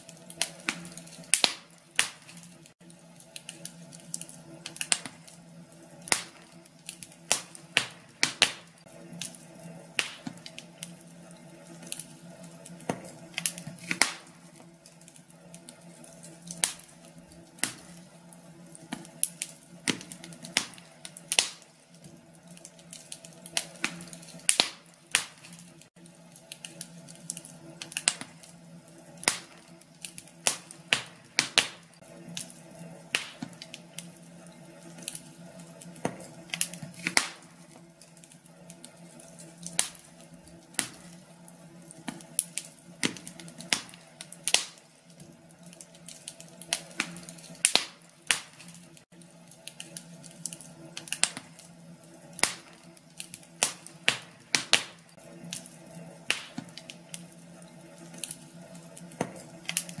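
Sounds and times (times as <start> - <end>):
fireplace fire crackling: 0.0 - 60.0.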